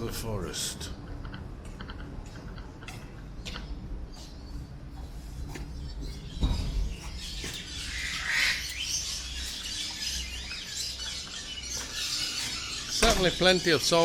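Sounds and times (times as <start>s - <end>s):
birds singing and chirping: 1.9s - 14.0s.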